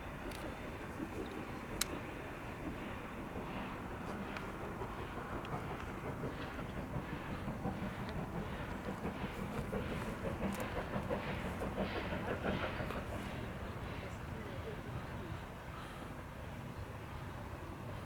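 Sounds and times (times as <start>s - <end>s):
train wheels clattering on rails: 0.0s - 16.4s.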